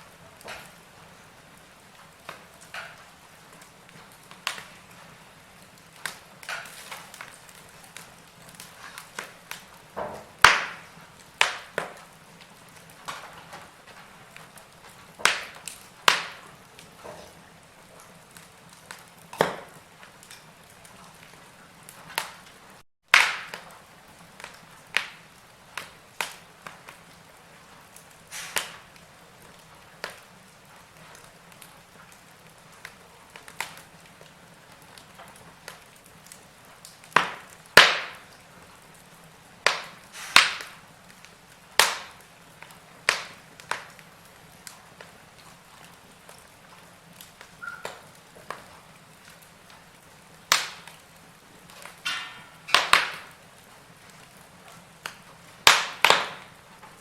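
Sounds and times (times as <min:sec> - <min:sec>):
burning logs popping and snapping: 0:00.0 - 0:57.0
faint steady hiss: 0:00.0 - 0:57.0.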